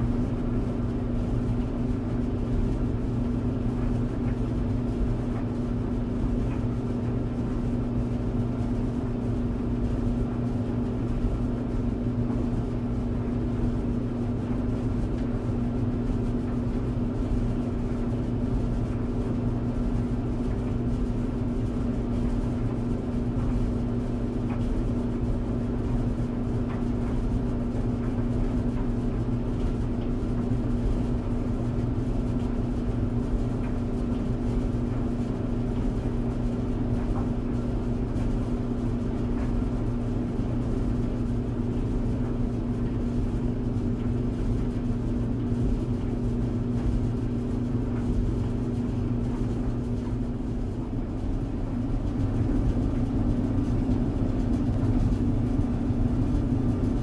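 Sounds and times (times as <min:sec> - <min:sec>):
tumble dryer running: 0:00.0 - 0:57.0.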